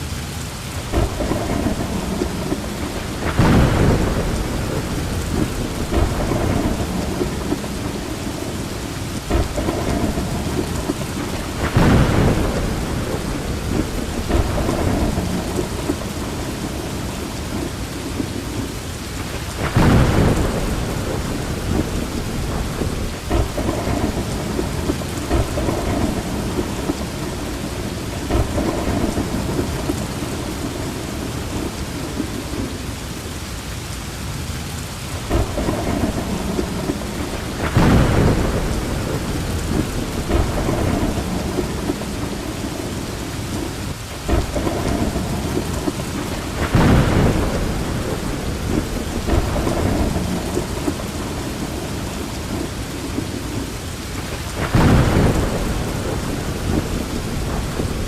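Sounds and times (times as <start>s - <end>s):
thunder rumbling: 0.0s - 33.1s, 34.9s - 58.0s
steady rain falling: 0.0s - 58.0s
thunder cracks: 0.9s - 32.7s, 35.2s - 58.0s.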